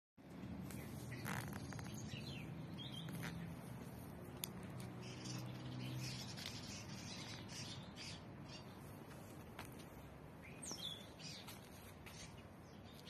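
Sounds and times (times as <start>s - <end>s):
garden birds chirping: 0.2s - 13.0s.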